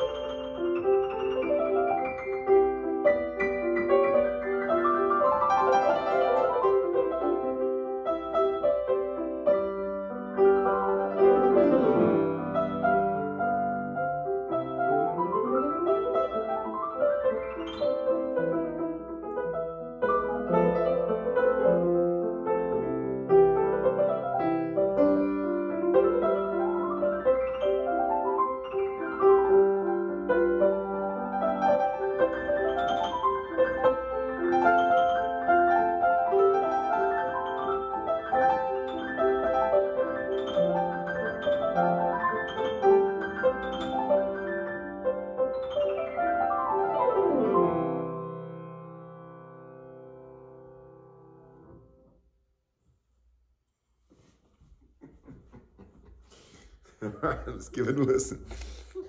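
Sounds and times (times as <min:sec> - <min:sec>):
piano duet: 0:00.0 - 0:52.2.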